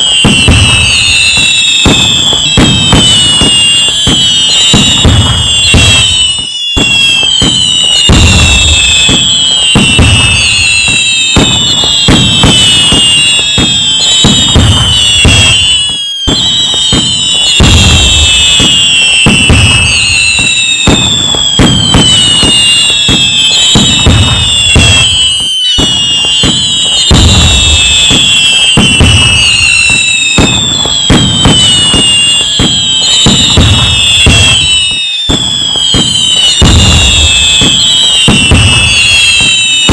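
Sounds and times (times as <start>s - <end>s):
fireworks bangs and crackling: 0.0s - 39.9s
fireworks whistles falling in pitch: 0.0s - 39.9s.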